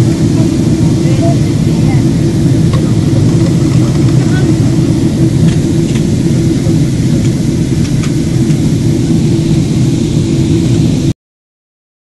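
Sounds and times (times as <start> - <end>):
airliner cabin engine roar: 0.0 - 11.2.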